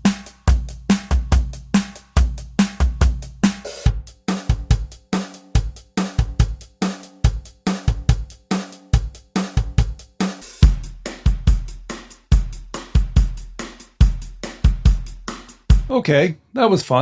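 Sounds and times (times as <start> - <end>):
programmed drum beat: 0.0 - 16.0.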